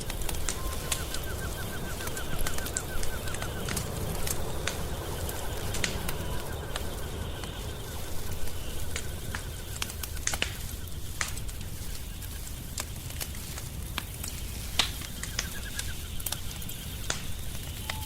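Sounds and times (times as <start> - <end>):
burning wood popping: 0.0 - 18.0
wood fire crackling: 0.0 - 18.0.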